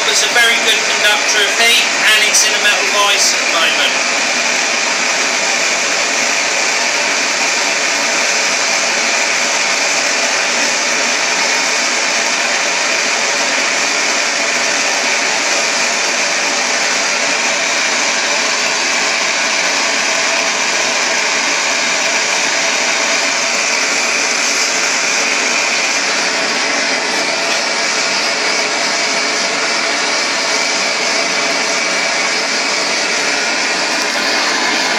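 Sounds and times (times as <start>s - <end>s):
gas torch roaring hiss: 0.0s - 34.9s.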